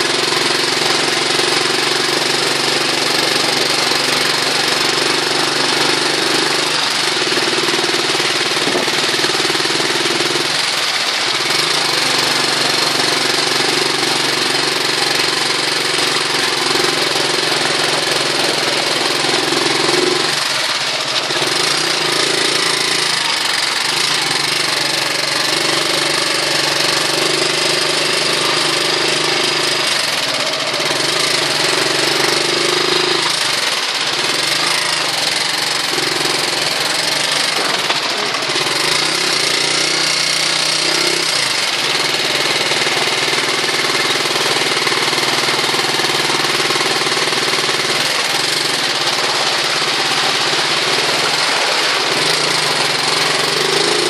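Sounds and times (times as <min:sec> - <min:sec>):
heavy rain: 0:00.0 - 0:54.0
motorcycle engine running: 0:00.0 - 0:54.0.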